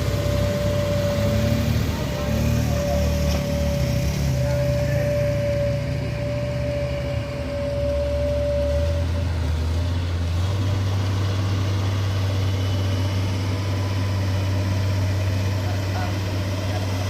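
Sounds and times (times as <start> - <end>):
heavy vehicle engine humming: 0.0 - 17.0
high whine: 0.0 - 17.0.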